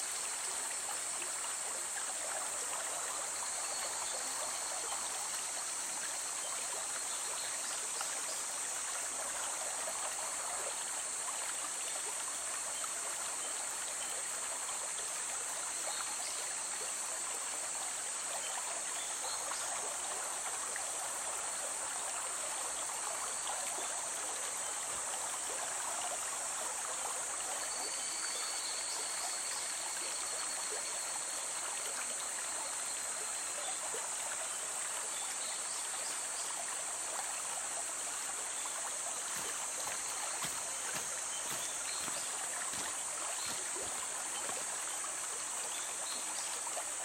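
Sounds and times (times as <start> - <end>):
river flowing: 0.0 - 47.0.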